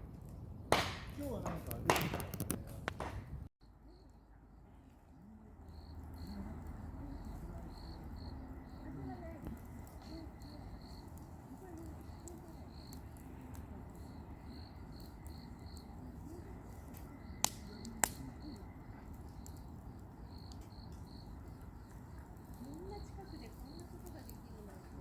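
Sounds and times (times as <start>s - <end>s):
crackling pops from fire: 0.0s - 3.4s, 5.9s - 25.0s
campfire burning: 0.0s - 25.0s
crickets chirping: 3.6s - 25.0s.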